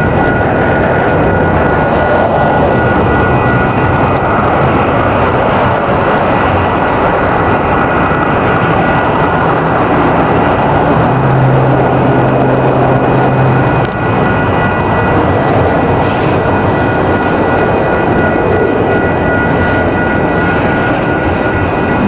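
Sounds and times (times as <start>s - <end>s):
high steady squeal: 0.0s - 22.0s
low hum: 0.0s - 22.0s
train wheels rumbling on rails: 0.0s - 22.0s.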